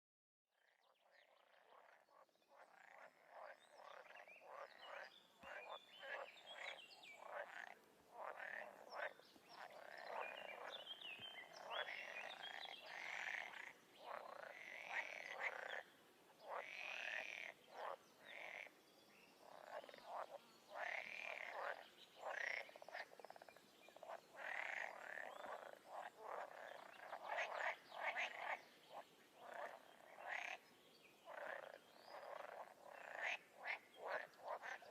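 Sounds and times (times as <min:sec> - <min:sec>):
frogs croaking in chorus: 0:00.6 - 0:18.8, 0:19.4 - 0:34.9.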